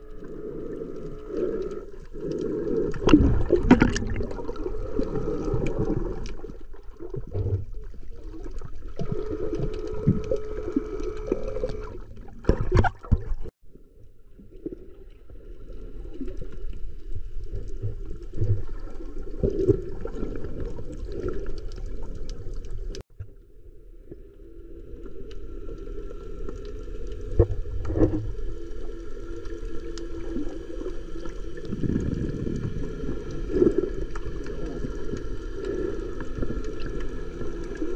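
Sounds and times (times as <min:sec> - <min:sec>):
water sloshing and gurgling: 0:00.0 - 0:37.9.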